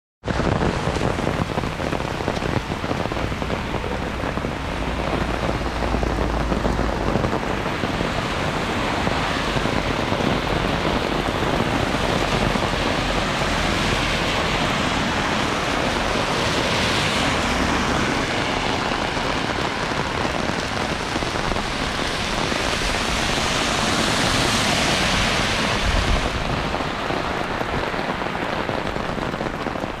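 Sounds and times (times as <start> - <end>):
heavy rain on hard surfaces: 0.2 - 30.0.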